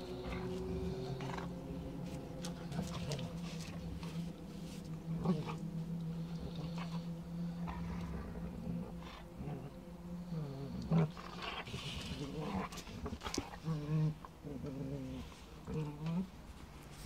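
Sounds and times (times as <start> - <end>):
dogs growling: 0.0 - 17.0.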